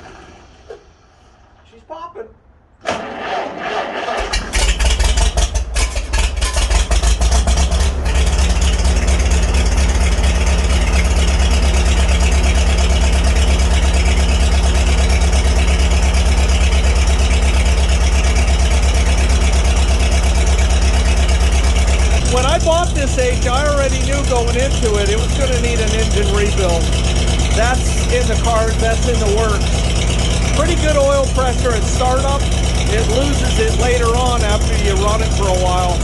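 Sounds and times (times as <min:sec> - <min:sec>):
tractor engine idling: 0:00.0 - 0:01.8, 0:02.9 - 0:36.0.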